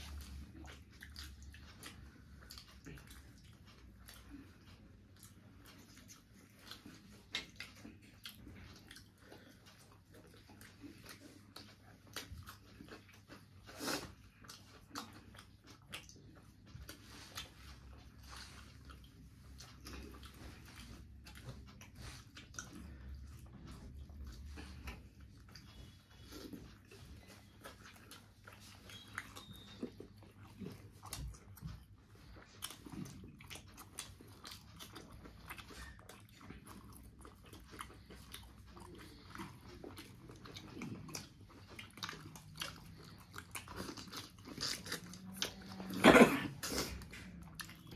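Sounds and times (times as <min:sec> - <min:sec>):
person chewing and smacking: 0:00.0 - 0:47.9.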